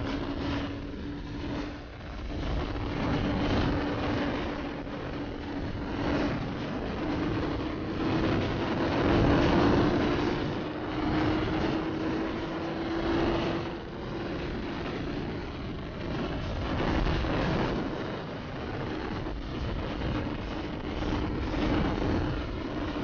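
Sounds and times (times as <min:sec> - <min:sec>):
motorcycle engine: 0:00.0 - 0:23.0
wind buffeting microphone: 0:00.0 - 0:23.0.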